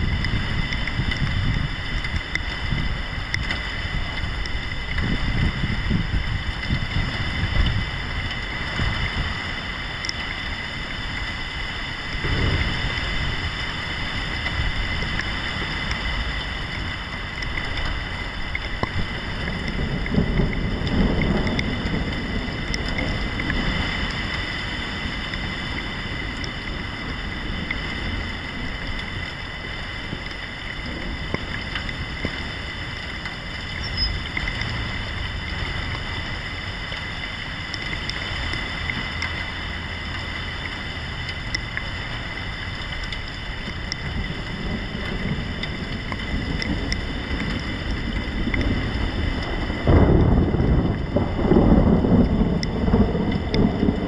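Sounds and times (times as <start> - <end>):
rolling thunder: 0.0 - 41.2, 43.4 - 54.0
steady rain: 0.0 - 54.0.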